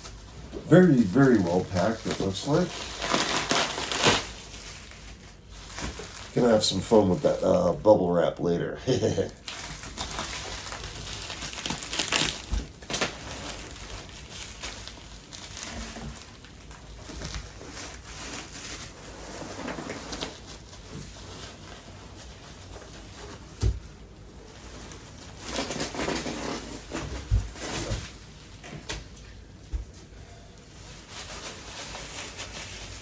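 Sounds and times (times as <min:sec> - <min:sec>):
bubble wrap crinkling: 0:00.0 - 0:08.0, 0:08.9 - 0:33.0.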